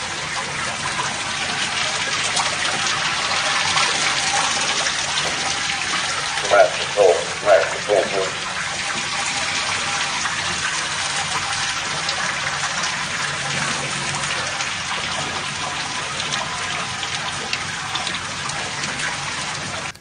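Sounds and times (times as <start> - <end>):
water splashing into a bucket: 0.0 - 20.0.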